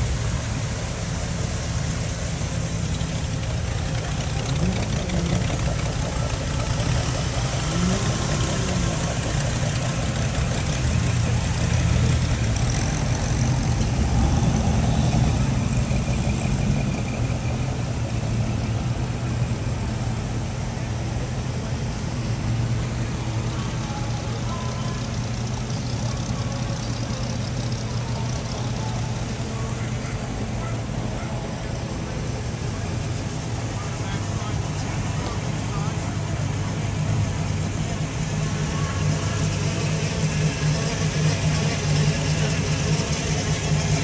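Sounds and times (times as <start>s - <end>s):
car engines running at low speed: 0.0s - 44.0s.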